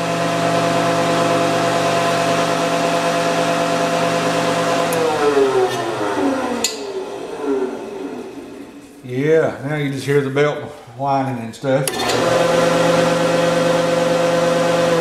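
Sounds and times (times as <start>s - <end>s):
wood shaper motor running: 0.0s - 9.0s, 11.9s - 15.0s.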